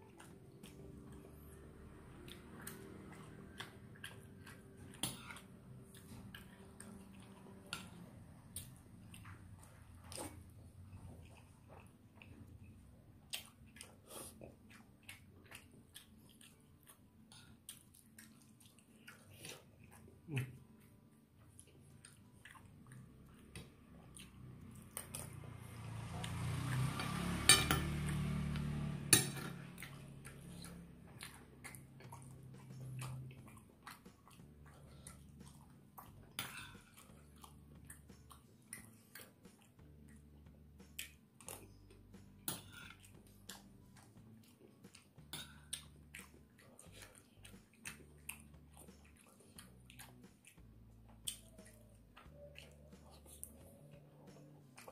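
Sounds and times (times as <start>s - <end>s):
chewing: 0.0s - 54.9s.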